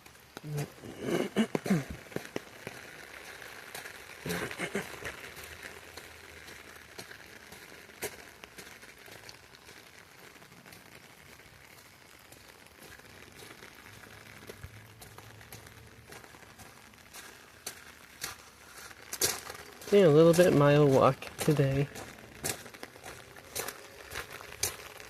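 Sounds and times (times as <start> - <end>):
heavy rain hissing: 0.0 - 25.0
sharp drip ticks: 1.5 - 25.0.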